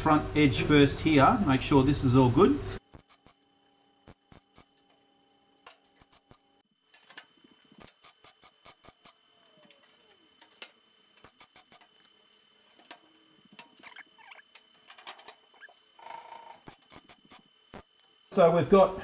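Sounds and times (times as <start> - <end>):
welder buzz: 2.4 - 19.0
welding crackling bursts: 2.8 - 18.4.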